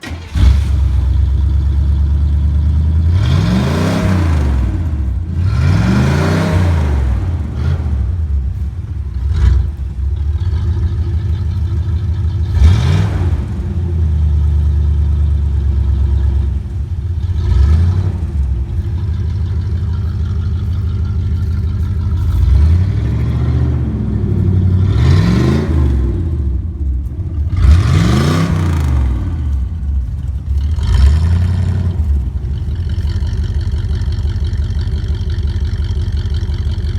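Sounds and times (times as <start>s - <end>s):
truck engine idling and revving: 0.0s - 36.9s.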